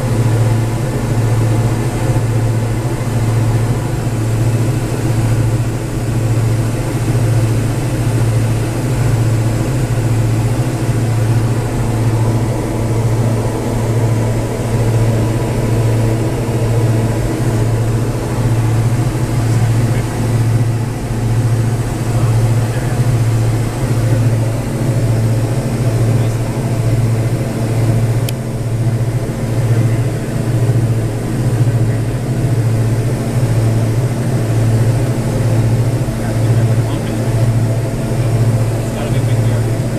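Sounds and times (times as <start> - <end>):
aircraft engines droning in cabin: 0.0 - 39.9.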